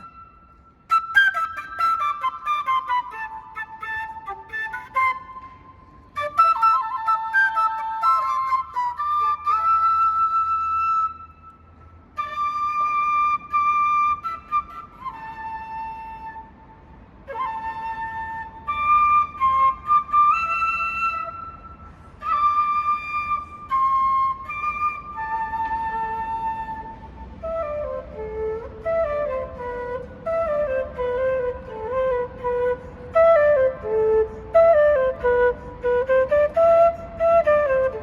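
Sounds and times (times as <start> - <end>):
flute playing slow melody: 0.0 - 38.0.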